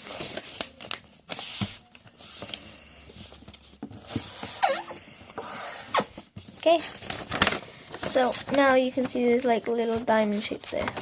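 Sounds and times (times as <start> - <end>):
paper folding and crinkling: 0.0 - 4.7, 5.3 - 11.0.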